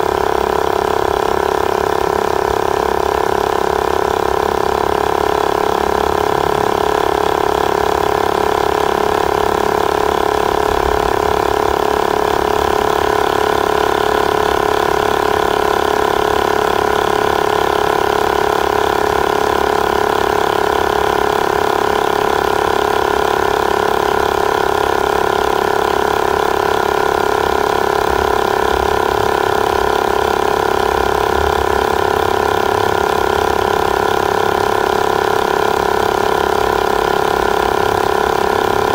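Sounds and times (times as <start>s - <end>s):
tire inflator compressor humming: 0.0s - 38.9s.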